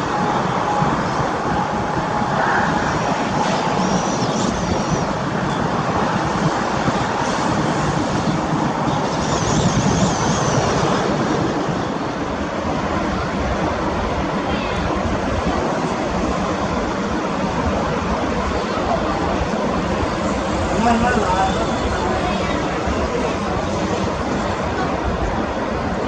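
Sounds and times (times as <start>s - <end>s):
steady rumbling background noise: 0.0s - 26.0s.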